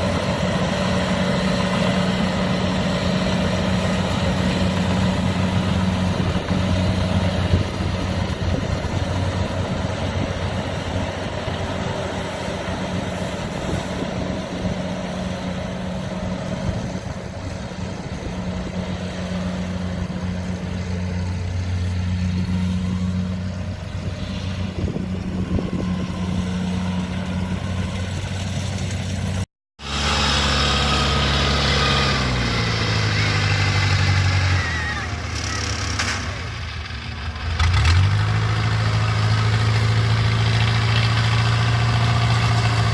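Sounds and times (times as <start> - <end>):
diesel engine humming: 0.0 - 42.9
machinery noise: 0.0 - 42.9.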